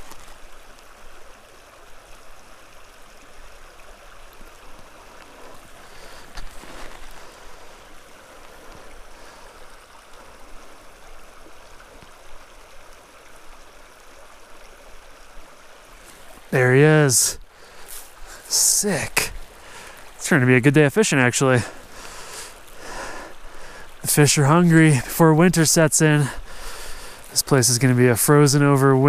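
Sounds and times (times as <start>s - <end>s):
creek water flowing: 0.0s - 29.0s.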